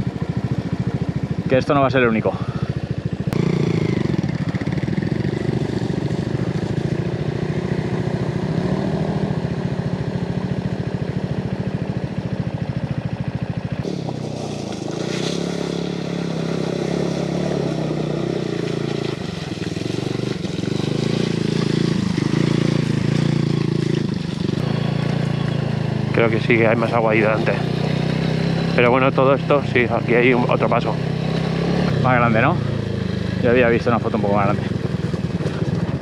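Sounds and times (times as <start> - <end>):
motorcycle engine running: 0.0 - 36.0
motorcycle riding through stream: 0.0 - 36.0.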